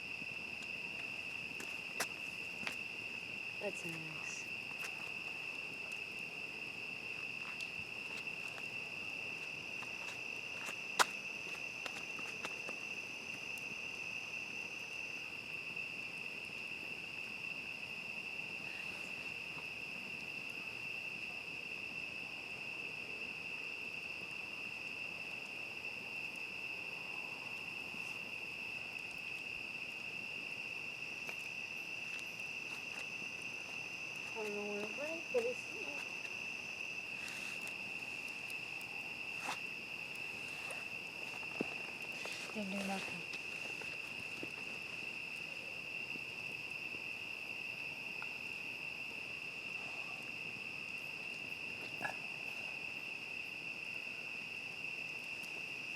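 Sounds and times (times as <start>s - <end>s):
campfire crackling: 0.0s - 55.9s
crickets chirring: 0.0s - 55.9s.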